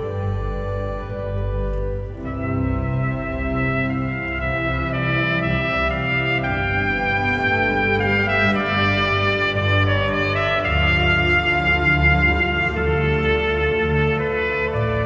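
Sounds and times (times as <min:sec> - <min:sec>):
piccolo trumpet melody: 0:00.0 - 0:15.0.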